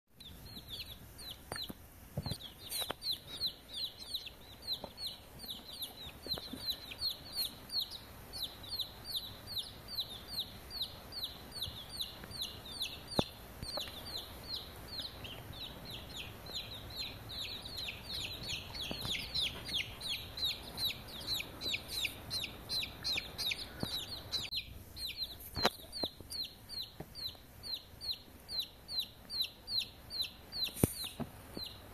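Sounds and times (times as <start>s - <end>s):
baby chicks peeping: 0.2s - 31.9s.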